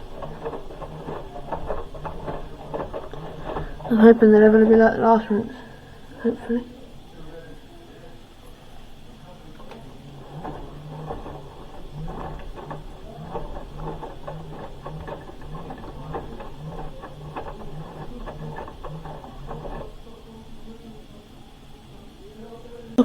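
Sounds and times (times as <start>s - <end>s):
washing machine drum tumbling: 0.0s - 6.6s, 8.9s - 21.4s.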